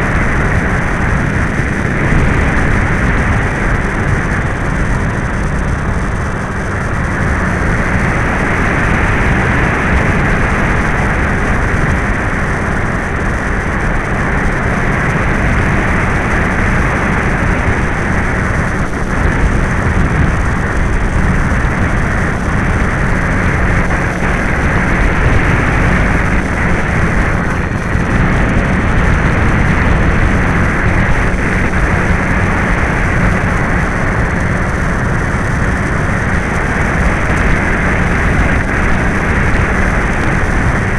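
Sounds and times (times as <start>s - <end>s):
model plane motor: 0.0s - 40.9s
wind rushing: 0.0s - 40.9s.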